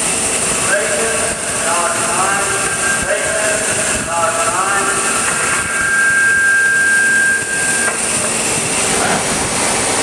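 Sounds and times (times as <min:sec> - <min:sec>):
high even whine: 0:00.0 - 0:10.0.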